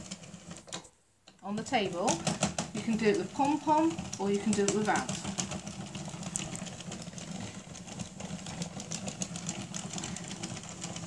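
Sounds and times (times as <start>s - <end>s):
knitting machine needles clattering: 0.0s - 11.0s.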